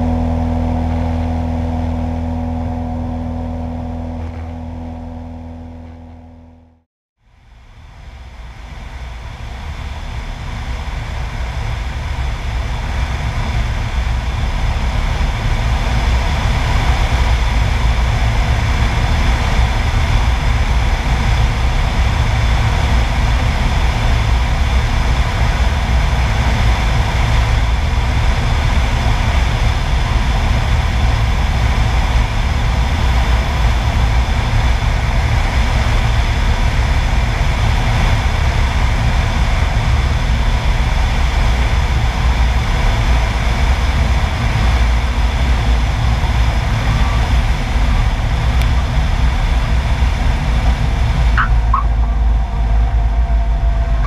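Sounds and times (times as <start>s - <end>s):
wind rumble on microphone: 0.0s - 6.4s, 7.3s - 54.0s
light airplane engine and propeller: 0.0s - 54.0s.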